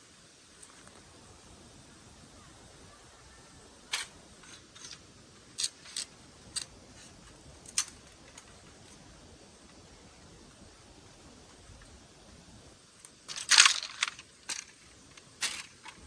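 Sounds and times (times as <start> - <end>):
faint steady background: 0.0 - 16.0.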